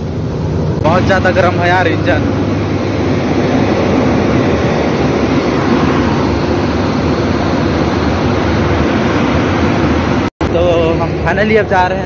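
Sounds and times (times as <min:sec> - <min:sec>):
electric locomotive rushing hum: 0:00.0 - 0:12.0.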